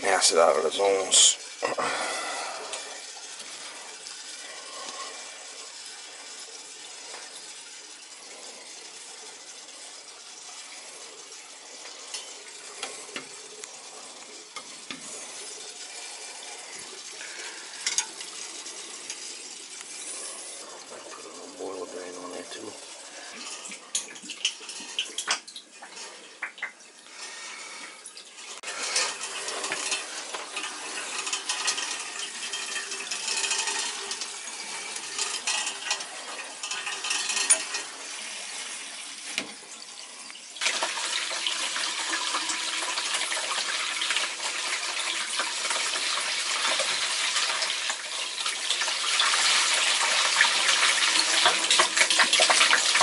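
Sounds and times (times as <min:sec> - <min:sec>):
water rushing from a hose: 0:00.0 - 0:53.0.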